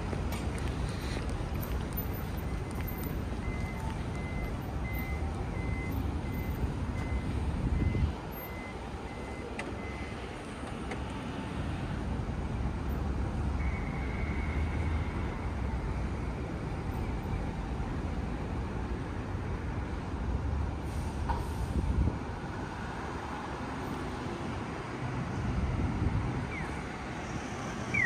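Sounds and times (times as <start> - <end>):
city street traffic rumble: 0.0 - 28.0.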